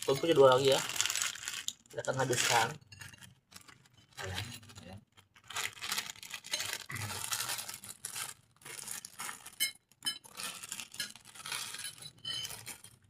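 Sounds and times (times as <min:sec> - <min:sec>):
food crunching: 0:00.2 - 0:13.0.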